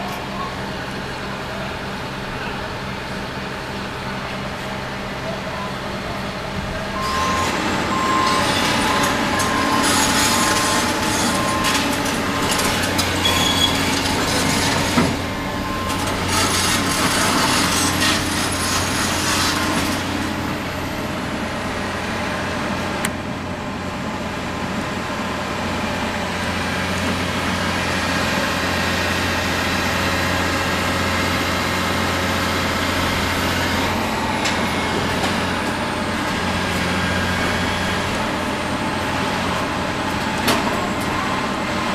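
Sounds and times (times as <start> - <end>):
excavator diesel engine: 0.0 - 41.9.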